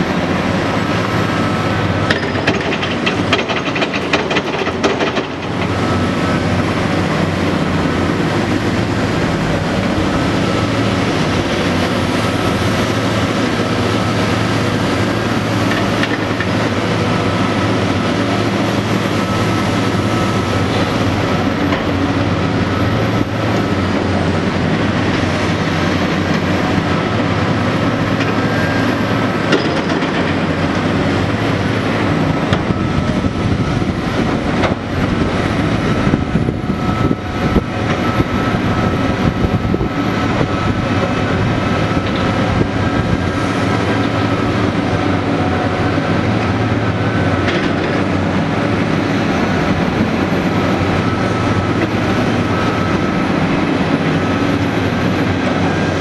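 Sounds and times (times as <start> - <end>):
excavator engine drone: 0.0 - 56.0.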